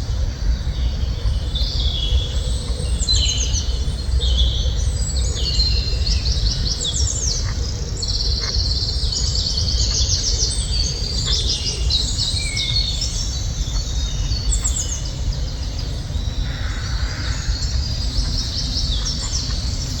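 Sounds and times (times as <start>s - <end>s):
steady low rumble: 0.0s - 20.0s
small birds chirping and trilling: 0.2s - 20.0s.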